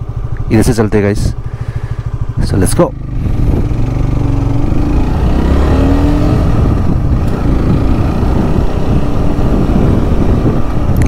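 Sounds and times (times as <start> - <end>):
motorcycle engine accelerating: 0.0 - 11.0
wind and road noise: 0.0 - 11.0.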